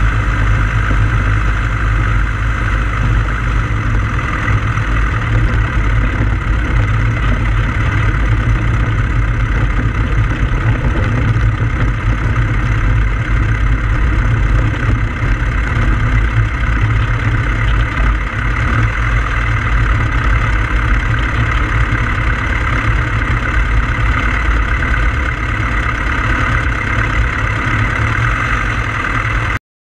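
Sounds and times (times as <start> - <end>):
deep rumble of rolling on grass: 0.0 - 29.6
light aircraft engine running: 0.0 - 29.6.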